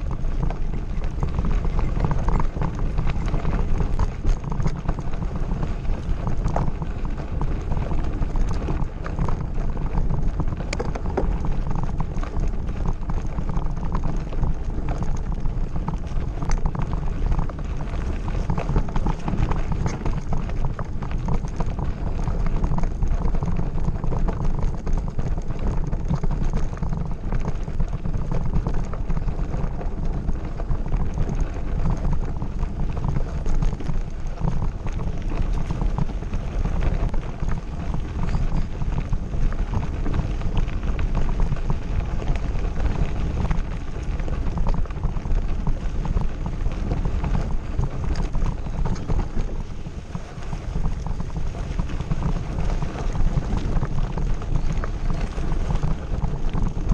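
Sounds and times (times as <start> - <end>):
bike tyres crunching over gravel: 0.0 - 56.9
wind rumble on microphone: 0.0 - 56.9.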